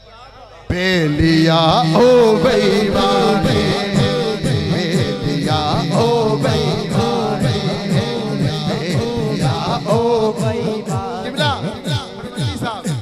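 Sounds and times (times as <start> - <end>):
man singing into a microphone: 0.6 - 13.0.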